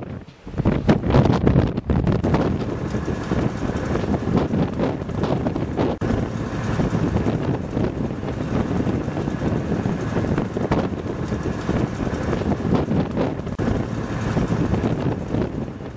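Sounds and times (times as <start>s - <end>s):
blizzard wind on microphone: 0.0s - 15.9s.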